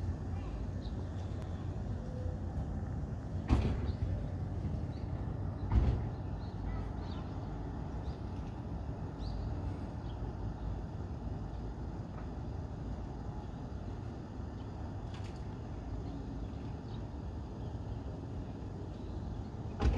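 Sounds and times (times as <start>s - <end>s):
distant city traffic rumble: 0.0s - 19.9s.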